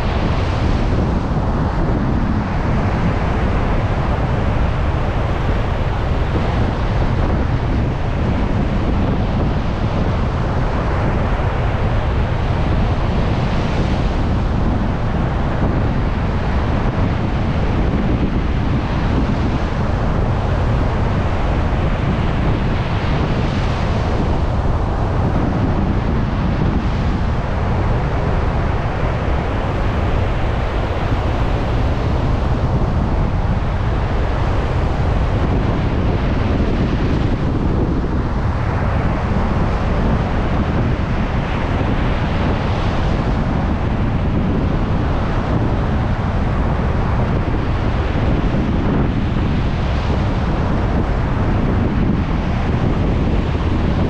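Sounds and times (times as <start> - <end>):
waves breaking on beach: 0.0 - 54.0
wind buffeting microphone: 0.0 - 54.0.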